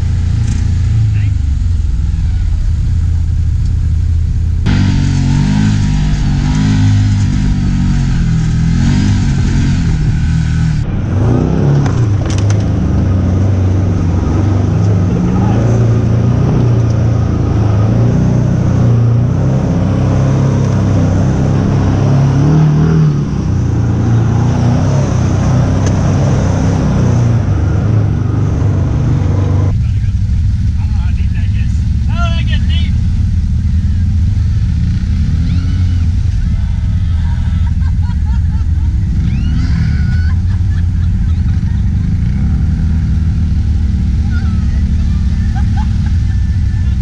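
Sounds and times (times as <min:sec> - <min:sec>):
off-road vehicle engine revving: 0:00.0 - 0:47.0.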